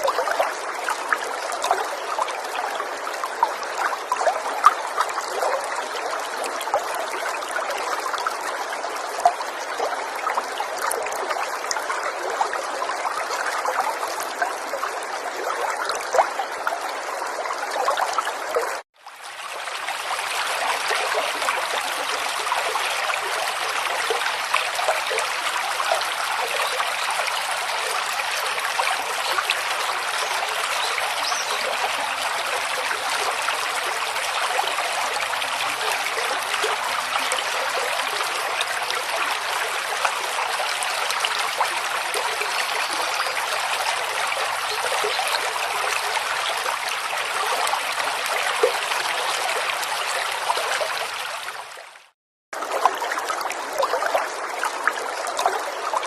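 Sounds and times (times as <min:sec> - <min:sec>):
river water trickling: 0:00.0 - 0:56.0.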